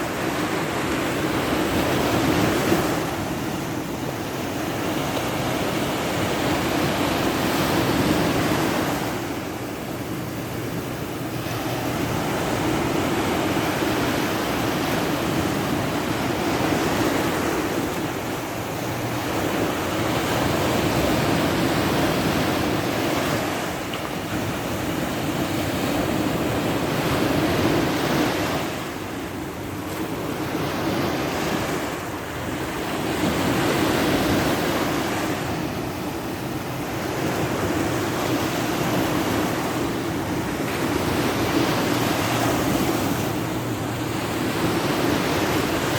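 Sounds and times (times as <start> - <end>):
sea waves breaking on shore: 0.0 - 45.9.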